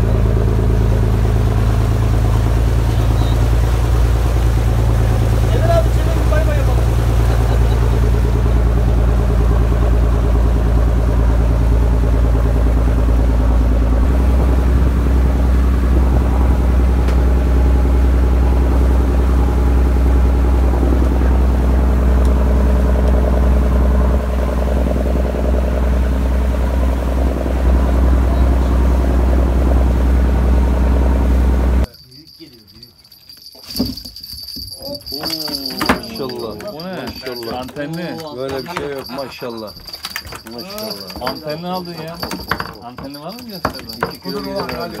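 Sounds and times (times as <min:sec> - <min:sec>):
boat engine droning: 0:00.0 - 0:31.9, 0:34.5 - 0:45.0.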